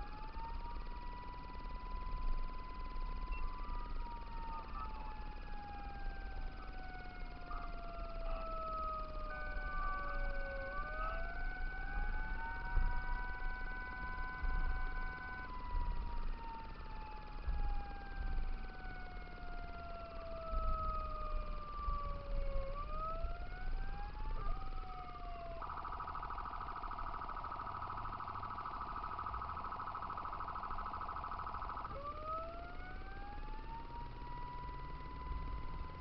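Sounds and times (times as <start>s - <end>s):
car road and engine rumble: 0.0s - 36.0s
fire engine siren wailing: 0.0s - 36.0s.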